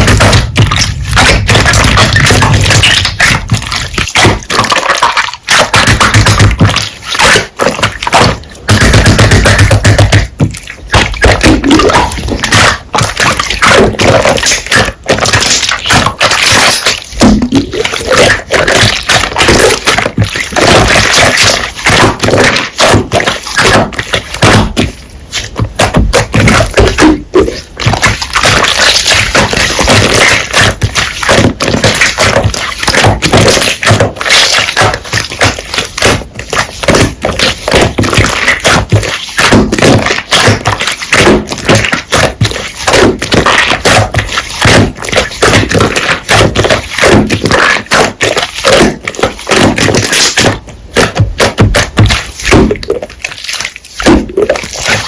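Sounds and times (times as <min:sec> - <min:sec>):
slime squelching and popping: 0:00.0 - 0:55.0.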